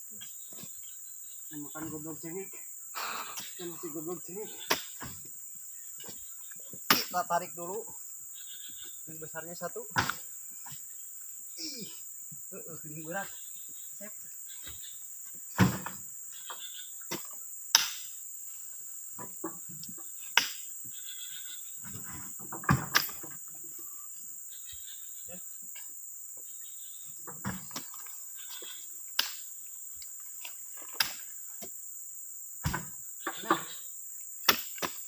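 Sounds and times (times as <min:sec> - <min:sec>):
high insect drone: 0:00.0 - 0:35.0.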